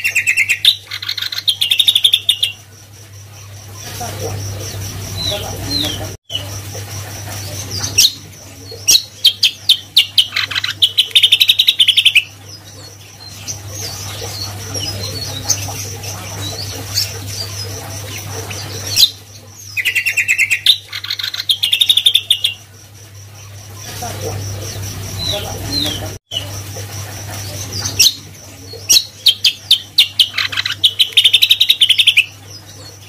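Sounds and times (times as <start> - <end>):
bird singing trills: 0.0 - 6.7, 7.4 - 33.0.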